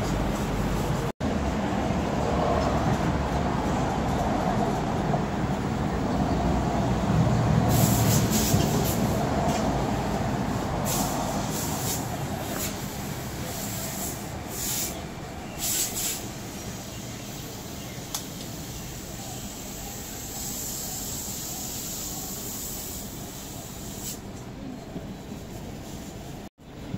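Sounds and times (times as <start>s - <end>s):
street traffic: 0.0s - 26.9s
vehicle rumbling: 0.0s - 26.9s.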